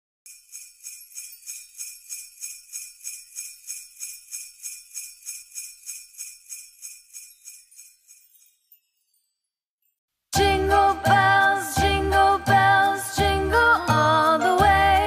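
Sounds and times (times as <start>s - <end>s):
jingle bells shaken: 0.3s - 9.6s, 10.5s - 15.0s.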